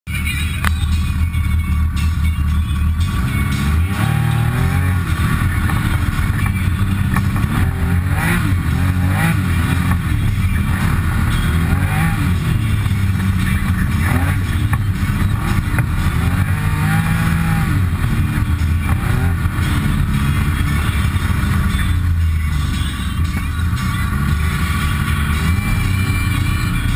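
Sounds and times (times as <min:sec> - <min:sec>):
engine revving: 0:00.6 - 0:26.9.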